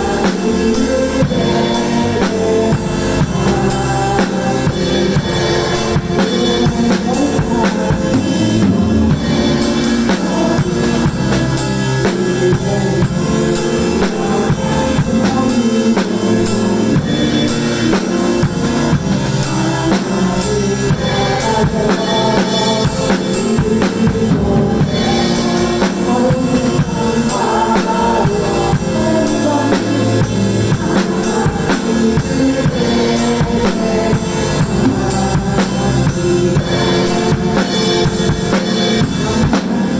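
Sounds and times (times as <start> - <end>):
acoustic drum kit playing: 0.0 - 39.9
worship song backing track: 0.0 - 39.9.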